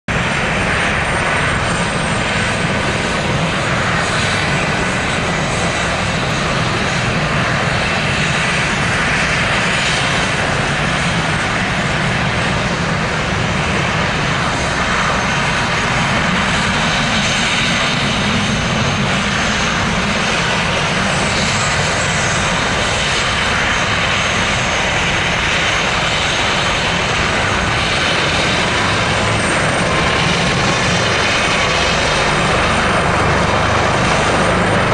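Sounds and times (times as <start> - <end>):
helicopter rotor churning: 0.1 - 34.9
helicopter turbine whine: 0.1 - 34.9.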